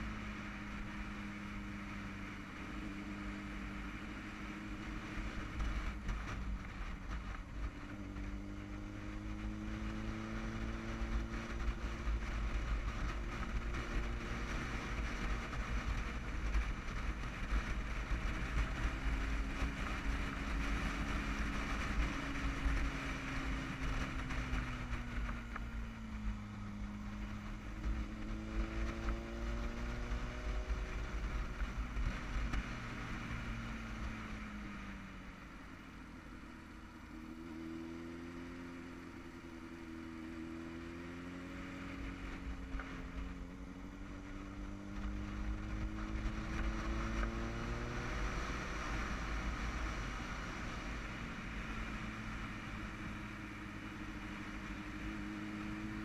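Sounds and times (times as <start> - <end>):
wind rumble on microphone: 0.0 - 35.4, 41.8 - 56.0
motorcycle engine revving: 0.0 - 56.0.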